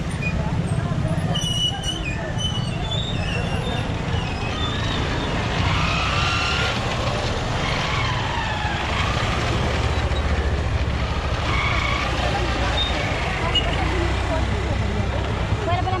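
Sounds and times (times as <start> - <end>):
motor vehicles rumbling: 0.0 - 16.0.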